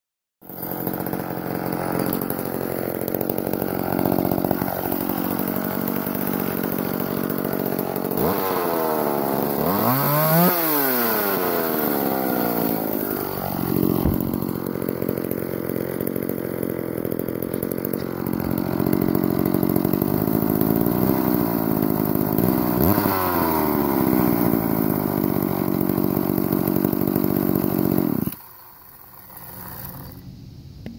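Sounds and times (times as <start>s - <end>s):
chainsaw engine revving: 0.4s - 30.3s.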